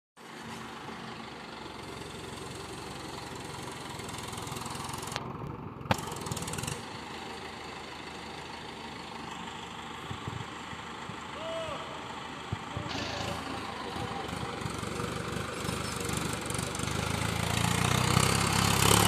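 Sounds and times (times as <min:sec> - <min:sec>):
tractor diesel engine running: 0:00.2 - 0:19.0.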